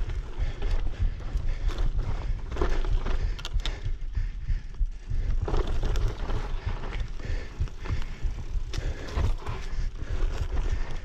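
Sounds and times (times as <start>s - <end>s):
bicycle thumping and rattling: 0.0s - 11.0s
wind on microphone: 0.0s - 11.0s.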